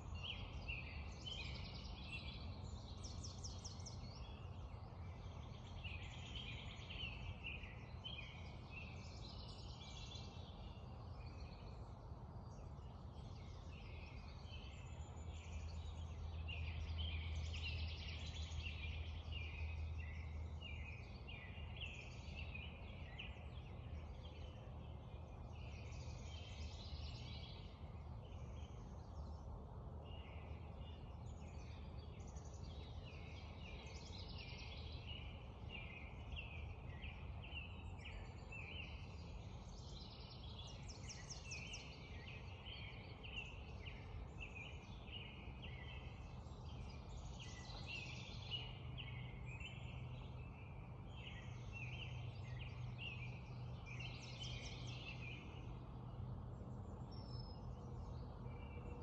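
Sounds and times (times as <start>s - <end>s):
birds singing and calling: 0.0s - 59.0s.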